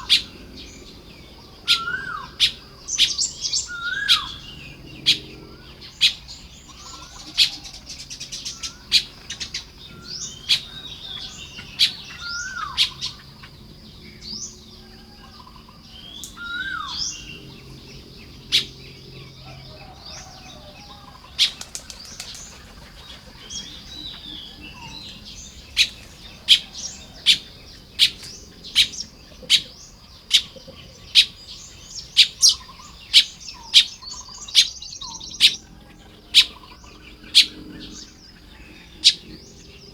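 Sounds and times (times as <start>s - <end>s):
weaver birds chirping: 0.0s - 39.9s.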